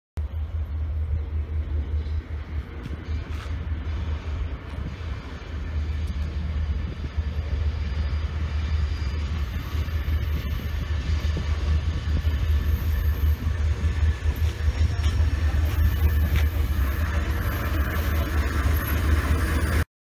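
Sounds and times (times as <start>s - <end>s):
freight train rumble: 0.2s - 19.9s.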